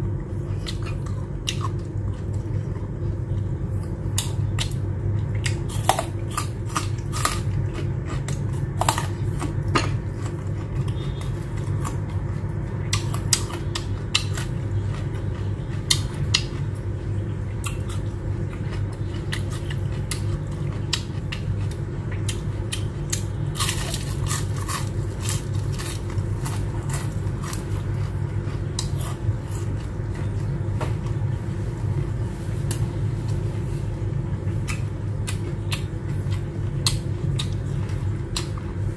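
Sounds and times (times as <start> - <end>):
steady low hum: 0.0 - 38.9
crunchy chewing: 0.4 - 31.3, 32.5 - 38.9.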